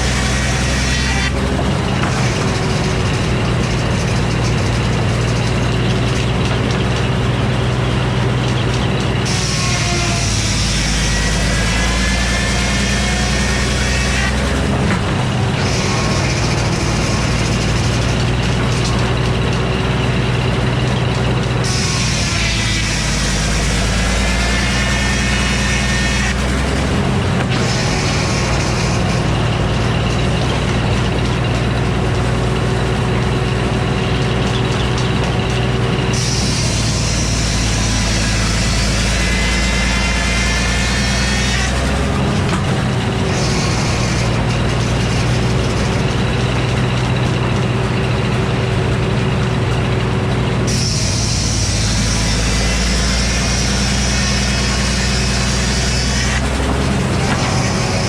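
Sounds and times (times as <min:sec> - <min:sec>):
circular saw cutting wood: 0:00.0 - 0:58.0
rising whine: 0:08.8 - 0:58.0.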